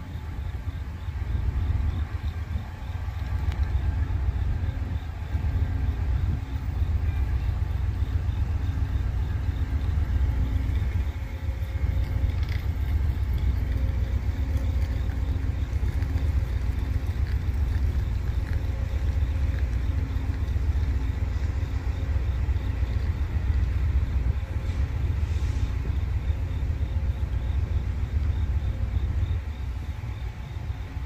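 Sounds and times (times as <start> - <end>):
faint steady hum: 0.0 - 31.0
freight train rumbling: 0.0 - 31.0.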